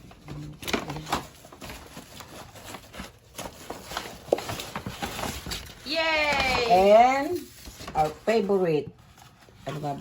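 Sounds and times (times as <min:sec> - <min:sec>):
food packaging rustling and clicking: 0:00.0 - 0:10.0.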